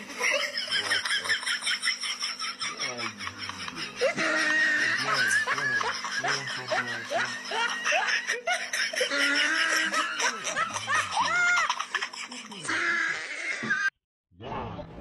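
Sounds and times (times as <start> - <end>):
man laughing: 0.0 - 13.9.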